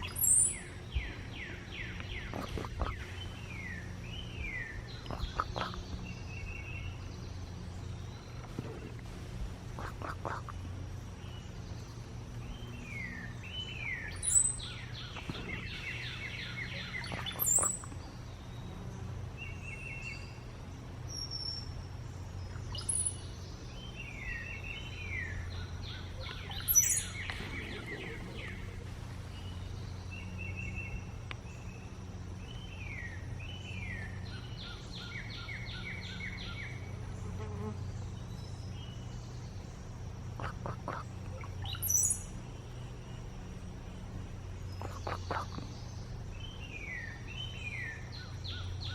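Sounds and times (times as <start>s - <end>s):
bird singing gurgling phrases: 0.0s - 48.9s
low hum: 0.0s - 48.9s.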